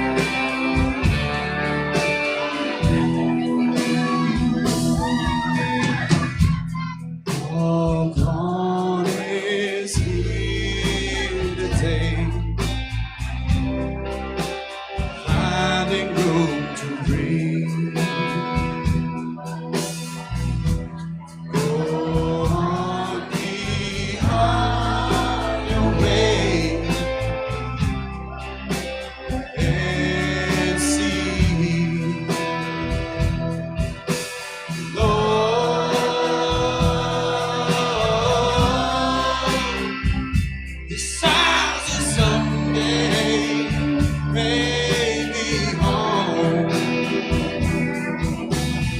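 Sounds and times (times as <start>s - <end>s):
bass: 0.0s - 48.9s
guitar: 0.0s - 48.9s
person singing: 0.0s - 48.9s.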